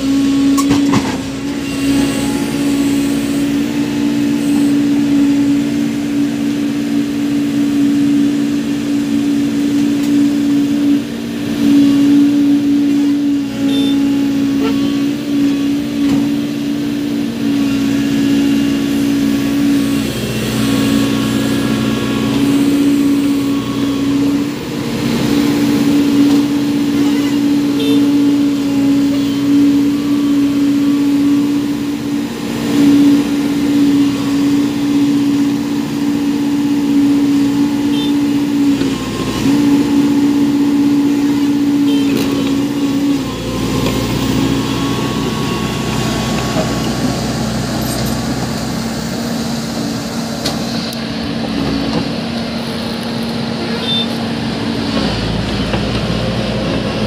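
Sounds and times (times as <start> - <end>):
dump truck engine straining: 0.0 - 57.0
excavator diesel engine: 0.0 - 57.0.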